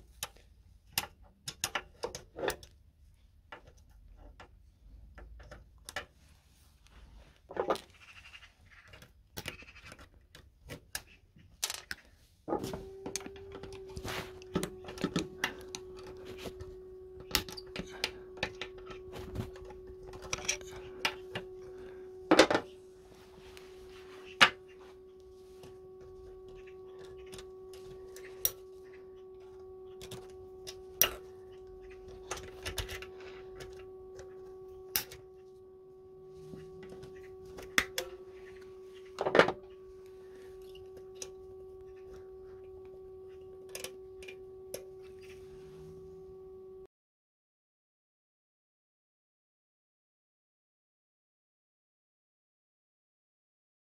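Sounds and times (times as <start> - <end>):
steady humming tone: 0.0 - 46.9.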